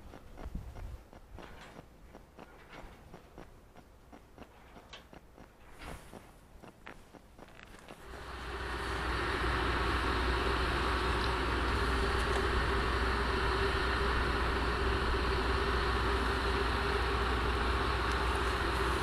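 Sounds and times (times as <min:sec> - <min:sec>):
constant mid-pitched tone: 0:00.0 - 0:19.0
train rumbling: 0:00.0 - 0:19.0.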